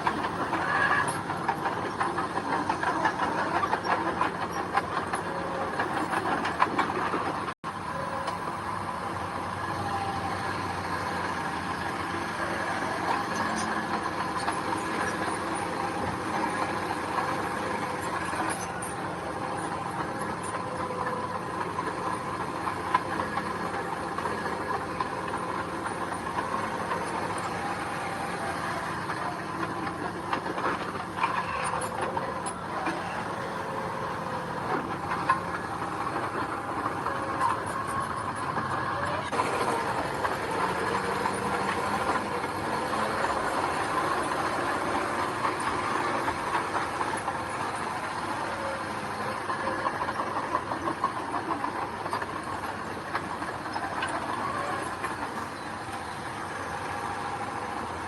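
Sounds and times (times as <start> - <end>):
diesel engine of heavy machinery: 0.0 - 58.0.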